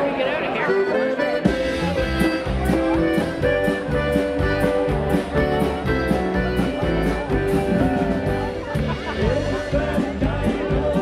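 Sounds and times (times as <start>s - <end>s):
polka band playing: 0.0s - 11.0s.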